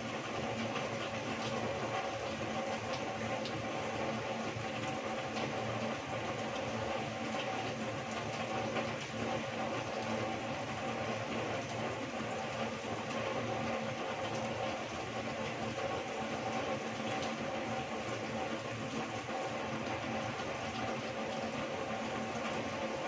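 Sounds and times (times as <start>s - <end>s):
heavy rain pouring: 0.0s - 23.0s
water streaming off roof: 0.0s - 23.0s.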